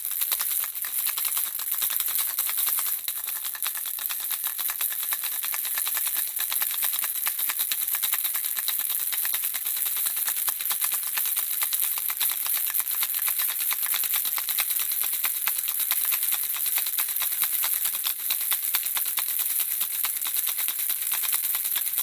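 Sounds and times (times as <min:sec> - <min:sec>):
baby rattle shaken: 0:00.0 - 0:22.0.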